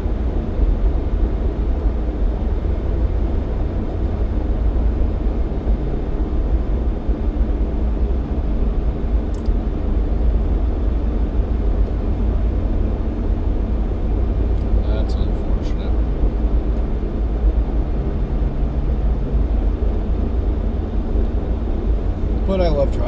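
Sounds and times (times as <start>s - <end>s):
car driving on snowy road: 0.0s - 23.0s.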